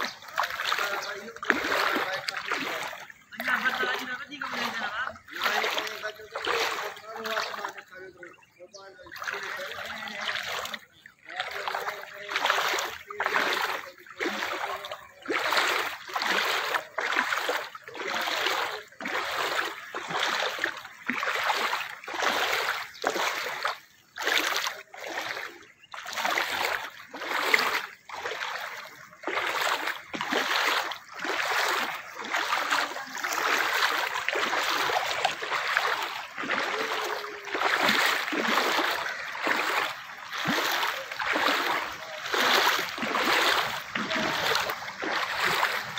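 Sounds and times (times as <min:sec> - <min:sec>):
wading splashes in water: 0:00.0 - 0:45.9.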